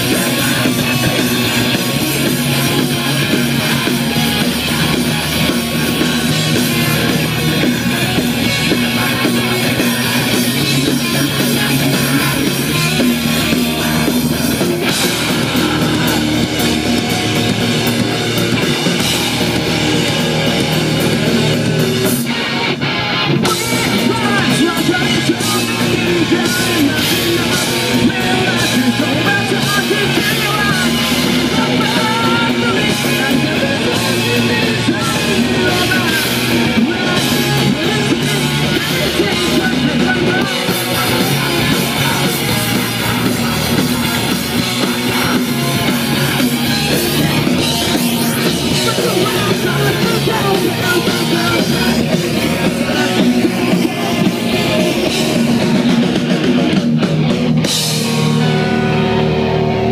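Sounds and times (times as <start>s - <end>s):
person singing: 0.0s - 22.6s, 23.4s - 56.8s
drums: 0.0s - 59.9s
electric guitars: 0.0s - 59.9s.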